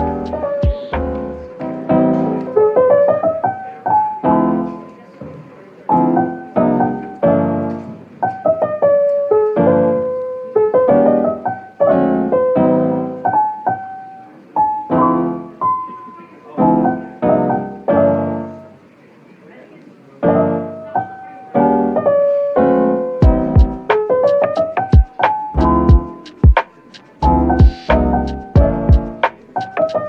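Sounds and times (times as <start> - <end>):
gentle lo-fi piano music: 0.0 - 30.0.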